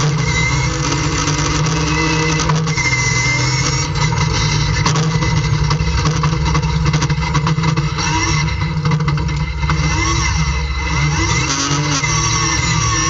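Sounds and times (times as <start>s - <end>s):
gear whine: 0.0s - 13.0s
race car engine slowing: 0.0s - 13.0s.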